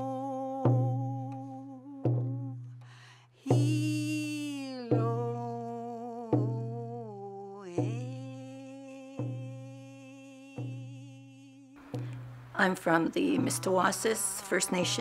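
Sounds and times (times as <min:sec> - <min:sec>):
hand drum beats: 0:00.0 - 0:02.8, 0:03.5 - 0:11.2, 0:11.8 - 0:15.0
woman singing: 0:00.0 - 0:15.0.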